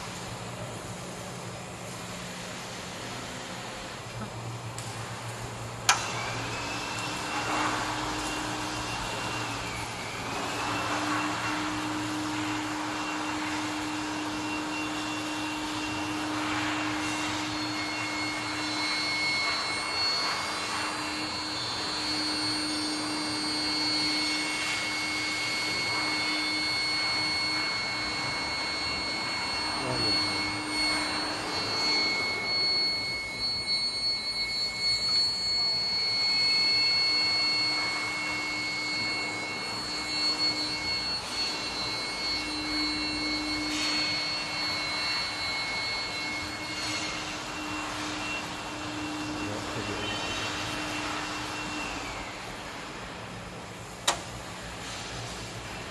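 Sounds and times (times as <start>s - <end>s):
high-pitched whining tones: 0.0s - 55.9s
low electrical hum: 0.0s - 55.9s.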